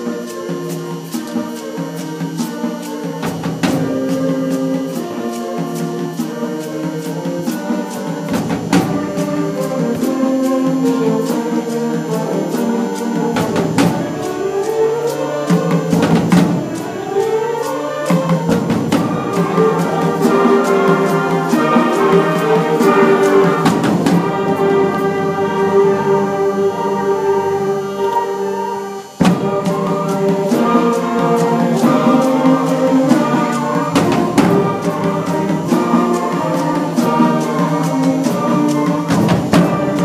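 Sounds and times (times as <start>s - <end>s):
drum strikes: 0.0s - 40.0s
sustained wind instrument notes: 0.0s - 40.0s.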